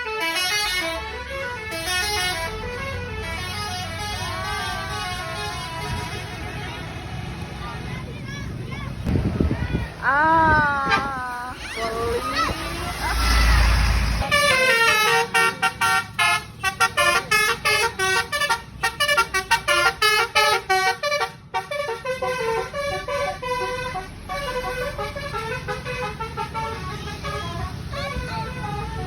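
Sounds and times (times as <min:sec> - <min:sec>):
bus multi-tone horn tune: 0:00.0 - 0:07.6, 0:10.8 - 0:29.0.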